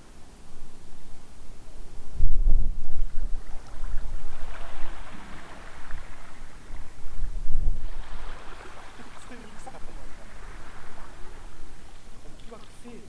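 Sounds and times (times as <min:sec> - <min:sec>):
steady outdoor hiss: 0:00.0 - 0:13.0
wind buffeting microphone: 0:00.0 - 0:13.0.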